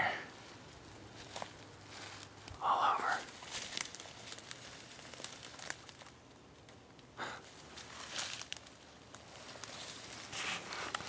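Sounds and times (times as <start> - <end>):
footsteps through dry leaves: 0.4 - 6.1, 7.5 - 11.0.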